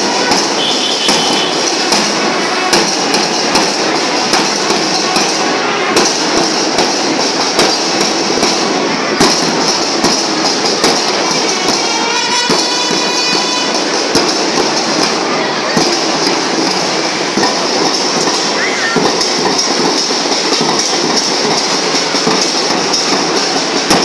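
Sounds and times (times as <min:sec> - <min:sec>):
snare drums rattling: 0:00.0 - 0:24.0.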